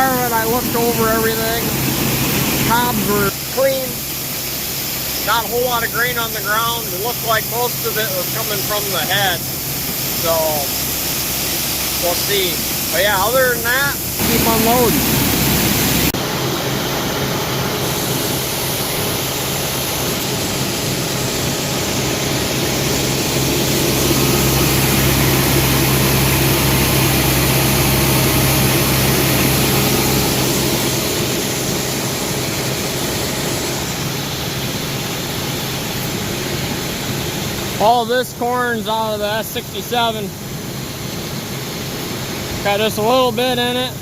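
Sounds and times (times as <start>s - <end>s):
grain rushing hiss: 0.0s - 43.9s
engine running: 0.0s - 44.0s.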